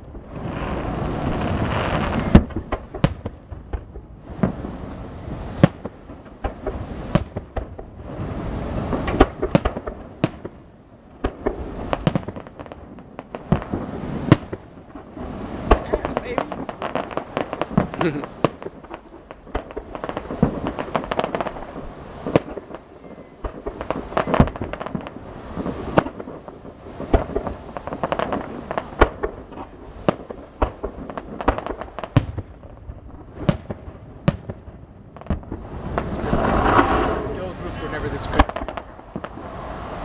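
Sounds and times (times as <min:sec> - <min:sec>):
fireworks booms and cracks: 0:00.0 - 0:40.0
fireworks crackling: 0:00.0 - 0:40.0.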